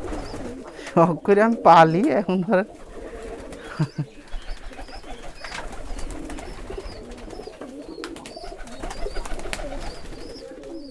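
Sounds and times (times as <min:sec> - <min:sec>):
pigeons cooing: 0:00.0 - 0:10.9.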